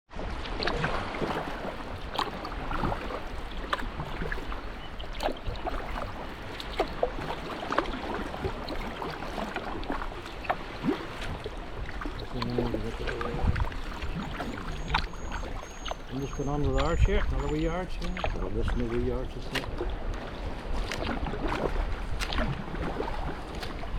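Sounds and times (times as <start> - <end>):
kayak paddle splashes: 0.1 - 23.9
water washing around kayak: 0.1 - 23.9.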